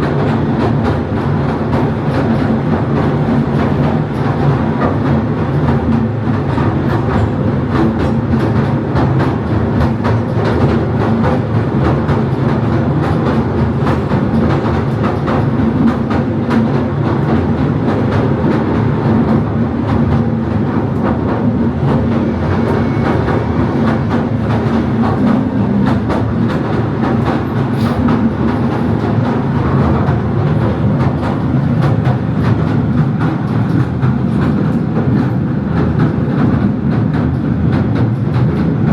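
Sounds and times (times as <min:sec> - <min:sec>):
train rumbling: 0:00.0 - 0:38.9
wheels clicking on rails: 0:00.0 - 0:38.9.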